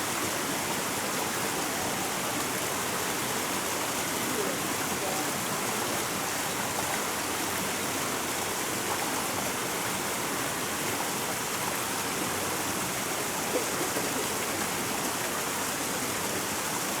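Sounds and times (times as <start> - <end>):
river running over rocks: 0.0 - 17.0.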